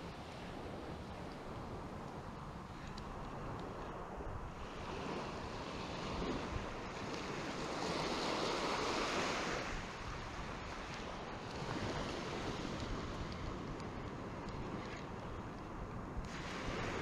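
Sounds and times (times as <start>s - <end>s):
surf washing up a beach: 0.0s - 17.0s
wind buffeting microphone: 0.0s - 17.0s.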